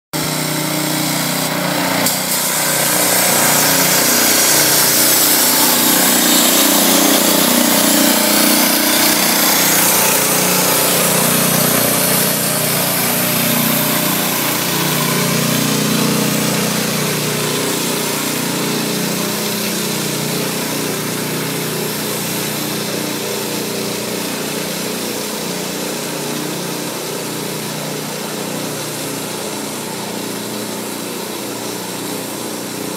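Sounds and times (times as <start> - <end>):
paint spray gun hissing: 0.2 - 32.9
small engine running: 0.2 - 32.9.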